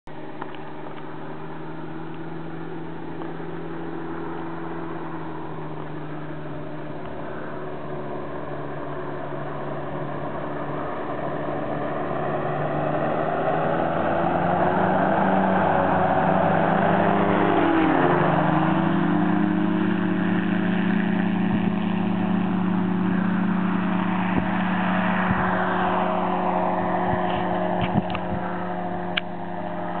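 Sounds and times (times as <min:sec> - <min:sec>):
light aircraft engine droning: 0:00.1 - 0:30.0.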